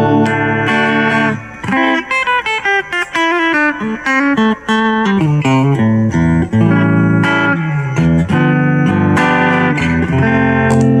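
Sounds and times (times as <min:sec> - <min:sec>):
electric guitar notes and chords: 0:00.0 - 0:11.0.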